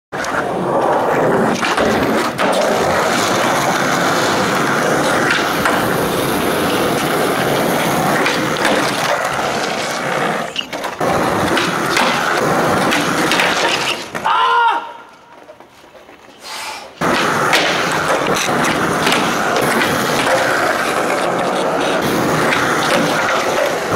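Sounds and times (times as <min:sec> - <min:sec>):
skateboard wheels rolling on concrete: 0:00.1 - 0:23.9.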